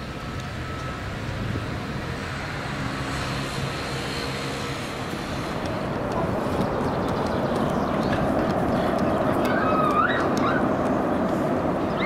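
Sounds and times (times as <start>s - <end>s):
city traffic rumble: 0.0s - 12.0s
tram running on track: 0.0s - 12.0s.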